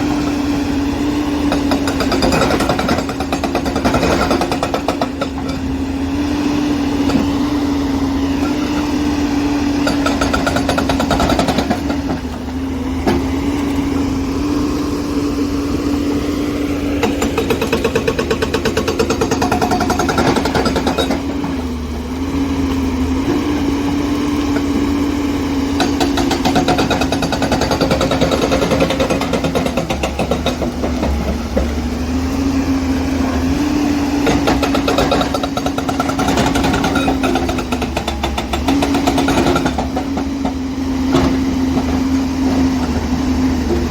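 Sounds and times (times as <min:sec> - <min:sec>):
hydraulic breaker hammering rock: 0:00.0 - 0:14.3, 0:16.8 - 0:21.8, 0:23.2 - 0:43.9
diesel engine running: 0:00.0 - 0:43.9.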